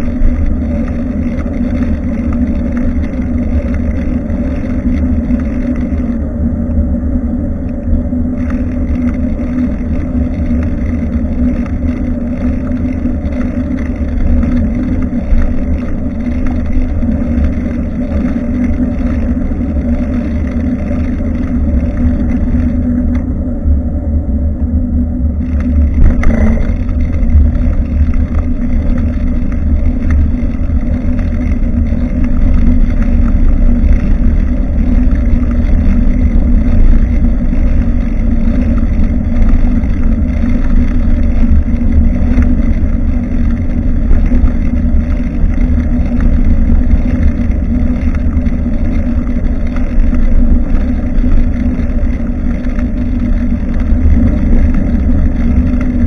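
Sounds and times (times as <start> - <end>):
road rumble: 0.0 - 56.0
wind buffeting microphone: 0.0 - 56.0.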